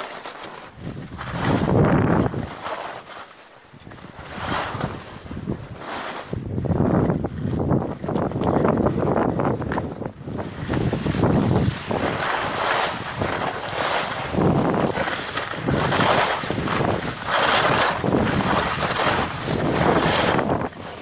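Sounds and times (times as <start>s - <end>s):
wind buffeting microphone: 0.7s - 2.6s, 3.8s - 21.0s.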